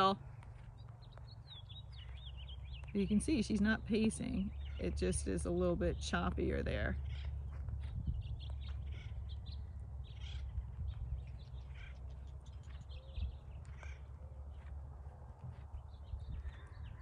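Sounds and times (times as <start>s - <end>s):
birds chirping and calling: 0.0s - 17.0s
low background rumble: 0.0s - 17.0s.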